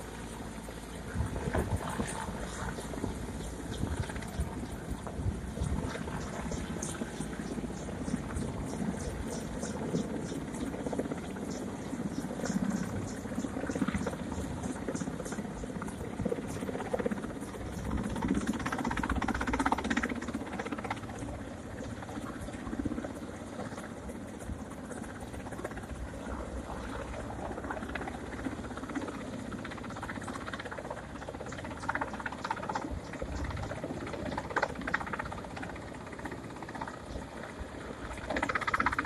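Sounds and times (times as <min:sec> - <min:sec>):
helicopter hovering: 0:00.0 - 0:39.0.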